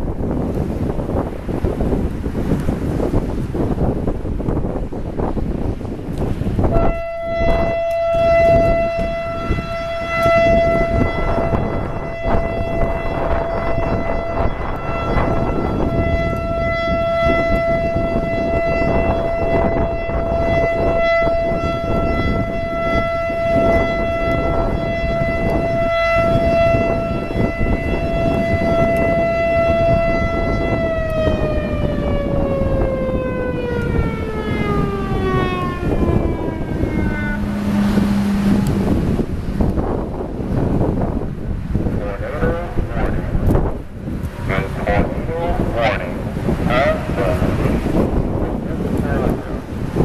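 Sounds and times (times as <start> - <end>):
wind noise on microphone: 0.0 - 50.0
electronic warning siren: 2.6 - 50.0.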